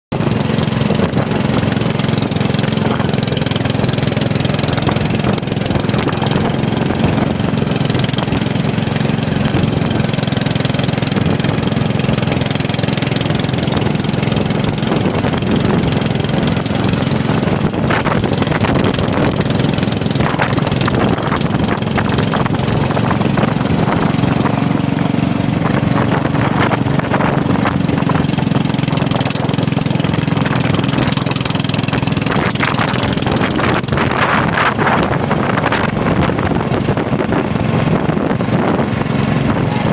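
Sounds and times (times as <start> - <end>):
riding lawn mower engine: 0.1 - 39.9
strong wind rushing: 0.1 - 39.9.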